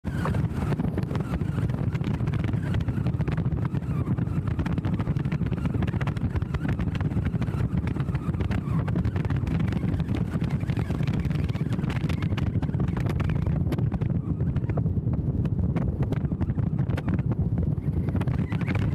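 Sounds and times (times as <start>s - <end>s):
car rumbling along road: 0.0s - 18.9s
wind on microphone: 0.0s - 18.9s.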